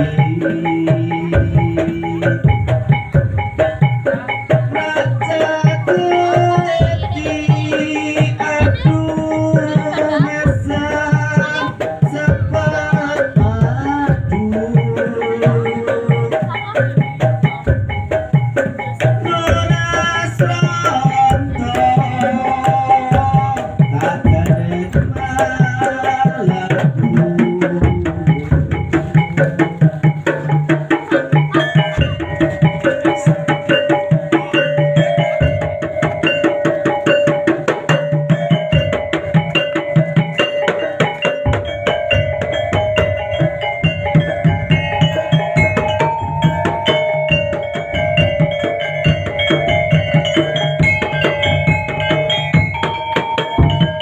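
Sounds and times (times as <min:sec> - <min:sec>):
fast dense drumming: 0:00.0 - 0:54.0
held melody line: 0:00.0 - 0:54.0.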